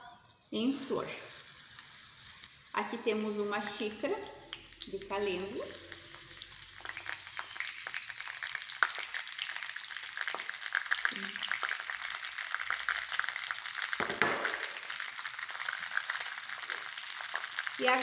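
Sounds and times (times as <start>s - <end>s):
petals sizzling in frying pan: 0.0s - 18.0s.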